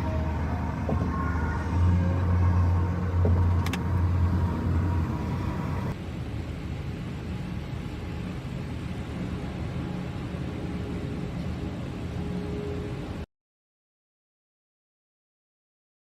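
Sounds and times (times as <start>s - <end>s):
car engine and road rumble: 0.0s - 13.2s.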